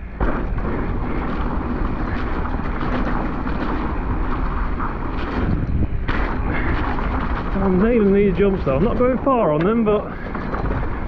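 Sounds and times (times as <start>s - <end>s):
bike tyres and frame rattling: 0.0s - 11.0s
wind rush over microphone: 0.0s - 11.0s.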